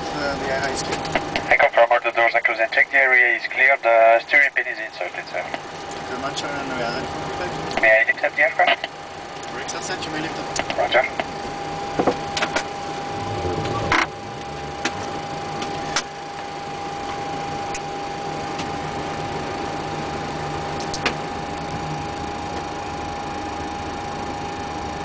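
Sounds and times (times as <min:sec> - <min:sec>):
cockpit hum and hiss: 0:00.0 - 0:25.0.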